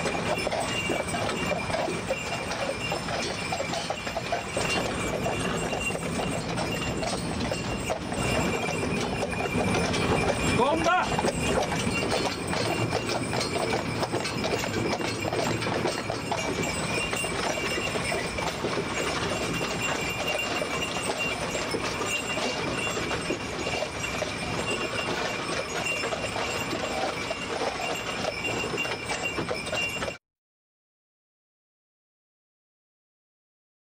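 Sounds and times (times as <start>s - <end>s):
horses clip-clopping: 0.0s - 30.2s
wagon rattling: 0.0s - 30.2s.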